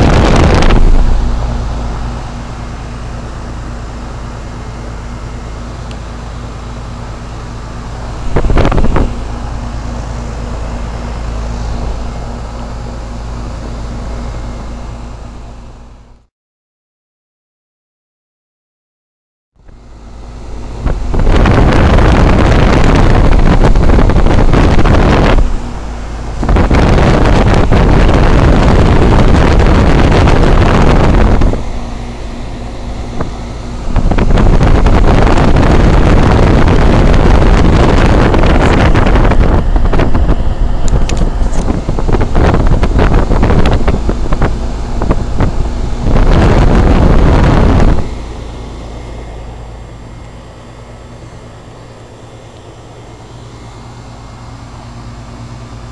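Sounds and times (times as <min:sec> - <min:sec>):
fan air rushing onto microphone: 0:00.0 - 0:16.3, 0:19.6 - 0:55.9.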